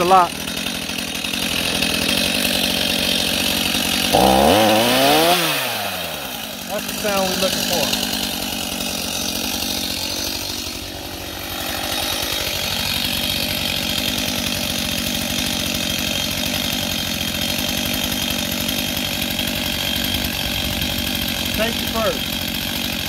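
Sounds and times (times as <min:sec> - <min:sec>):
chainsaw engine idling: 0:00.0 - 0:23.0.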